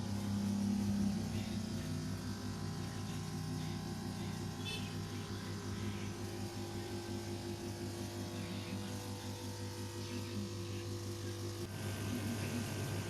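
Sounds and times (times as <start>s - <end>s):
buzzing mechanical hum: 0.0s - 13.0s.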